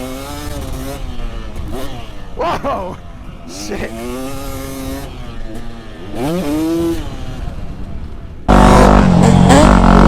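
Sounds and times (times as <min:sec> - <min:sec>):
dirt bike engine revving: 0:00.0 - 0:07.8, 0:08.5 - 0:10.0.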